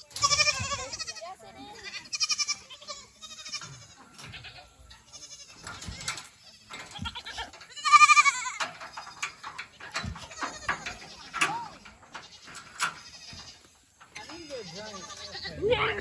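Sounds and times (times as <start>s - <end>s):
goats bleating: 0.0s - 16.0s.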